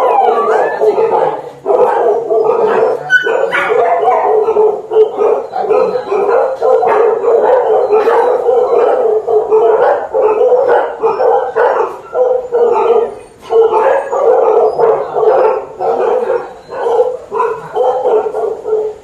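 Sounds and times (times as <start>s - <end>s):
dogs barking and howling: 0.0s - 19.0s.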